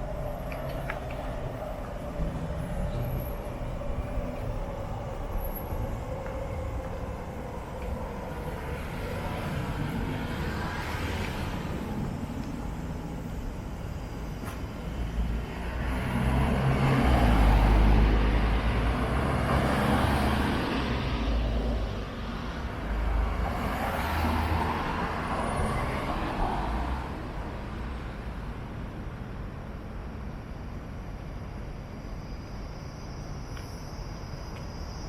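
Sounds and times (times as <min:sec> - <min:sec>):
vehicles passing by: 0:00.0 - 0:28.7.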